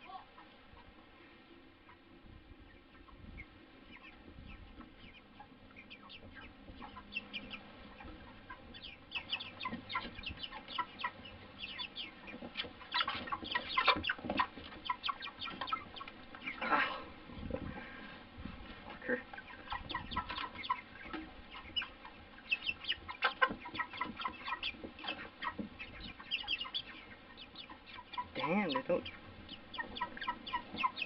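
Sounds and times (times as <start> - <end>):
chickens peeping: 0.0 - 31.0.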